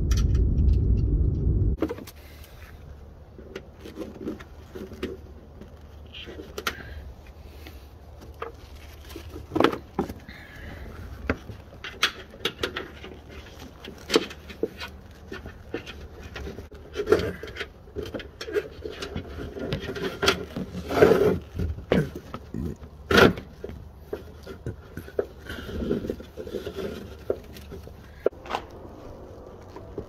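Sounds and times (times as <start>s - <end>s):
gloved hands rustling wiring: 2.0s - 30.0s
scraping against trim: 3.6s - 28.4s.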